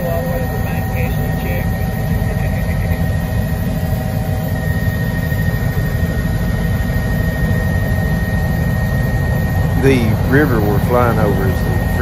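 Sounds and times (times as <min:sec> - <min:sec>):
constant high whine: 0:00.0 - 0:12.0
helicopter engine and rotor rumble: 0:00.0 - 0:12.0.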